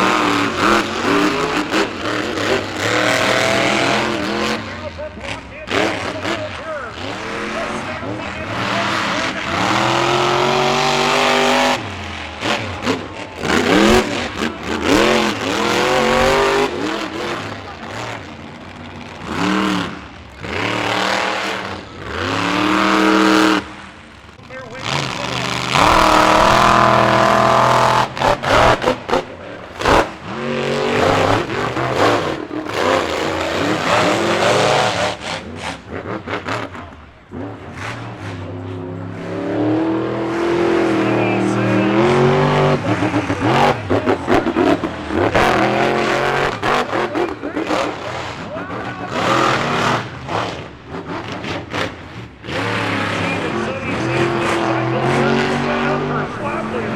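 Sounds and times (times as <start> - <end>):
engine throttle blips: 0.0 - 56.9
truck engine revving: 0.0 - 56.9.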